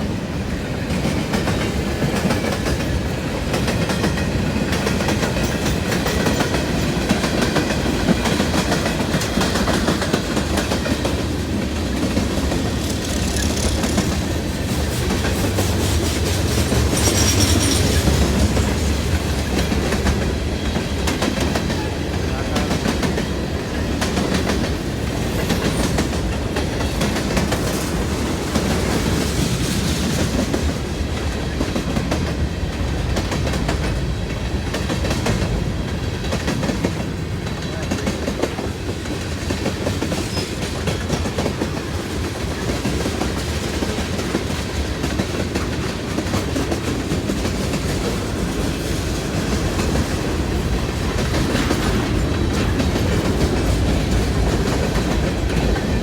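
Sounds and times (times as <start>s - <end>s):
freight train rumbling past: 0.0s - 56.0s
wheels clacking over rail joints: 0.9s - 56.0s.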